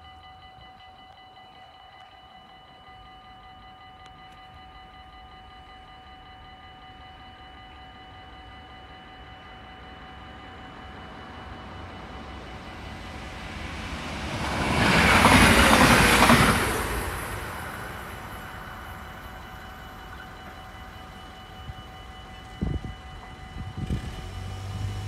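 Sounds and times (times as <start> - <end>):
crossing warning bell ringing: 0.0 - 25.0
passenger train passing: 3.7 - 25.0.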